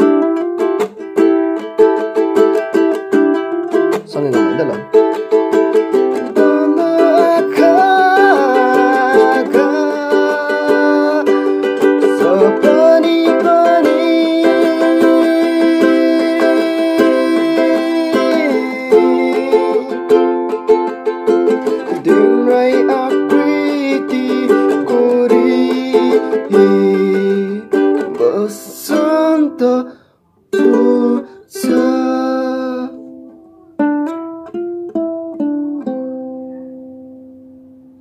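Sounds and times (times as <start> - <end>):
ukulele notes picked: 0.0 - 29.7, 30.5 - 38.0
ukulele strumming: 0.0 - 38.0.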